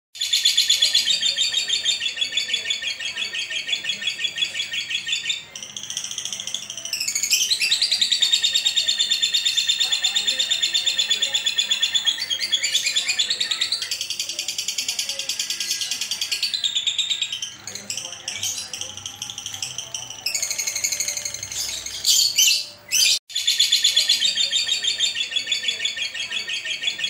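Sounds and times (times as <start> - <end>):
lovebird chirping rapidly: 0.2 - 27.0.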